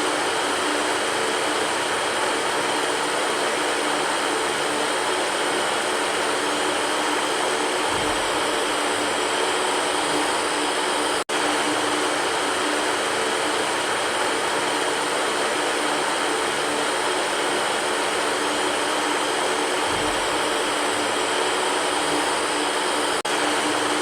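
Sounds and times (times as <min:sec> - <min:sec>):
fan whooshing: 0:00.0 - 0:24.0.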